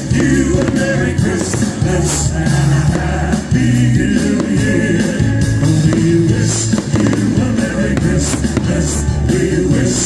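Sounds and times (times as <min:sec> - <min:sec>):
live band playing christmas songs: 0:00.0 - 0:10.0
person singing: 0:00.0 - 0:10.0.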